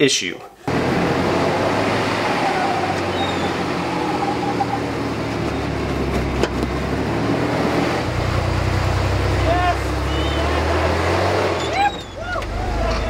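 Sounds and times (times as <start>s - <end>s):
pickup truck engine running: 0.7s - 13.0s.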